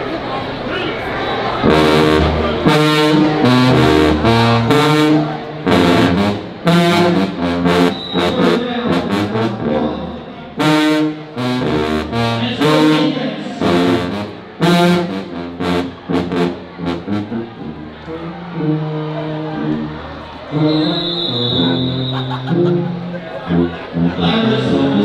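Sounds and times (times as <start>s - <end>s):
brass band fanfare: 1.6s - 25.0s.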